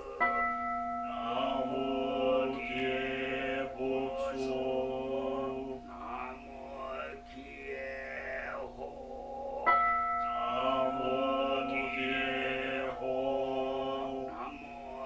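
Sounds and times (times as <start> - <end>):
bell ringing: 0.0 - 7.8, 9.7 - 15.0
group of voices chanting: 1.1 - 15.0.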